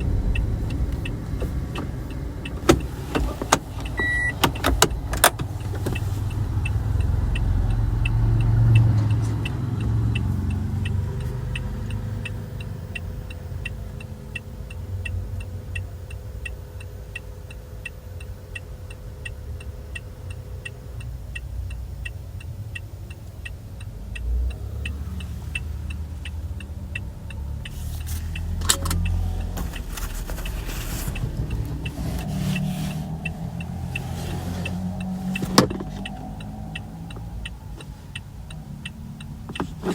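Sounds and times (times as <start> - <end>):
car low rumble: 0.0 - 39.9
turn signal ticking: 0.0 - 39.9.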